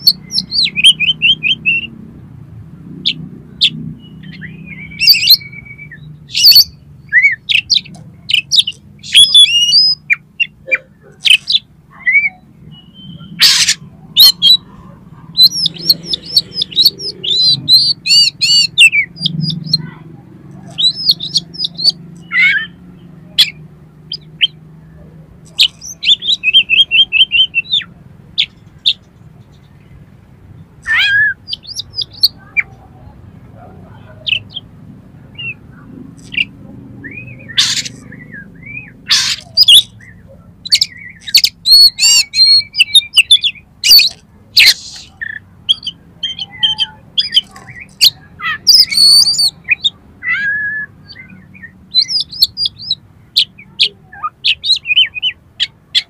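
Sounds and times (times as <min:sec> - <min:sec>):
bird singing varied song: 0:00.0 - 0:02.1, 0:02.9 - 0:56.0.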